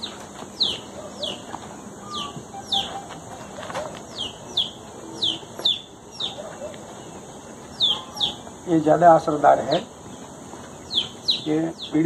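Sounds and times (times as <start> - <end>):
bird high falling chirps: 0.0 - 8.6, 10.1 - 12.0.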